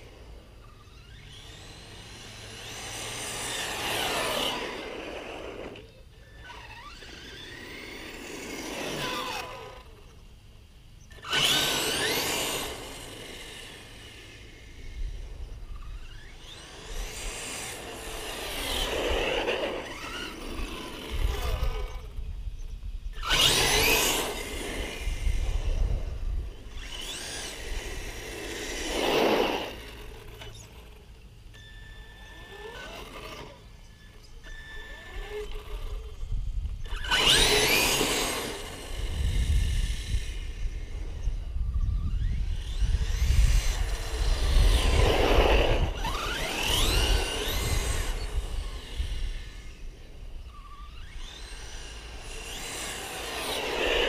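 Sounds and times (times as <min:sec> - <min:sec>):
electric motor whine: 0:00.0 - 0:54.0.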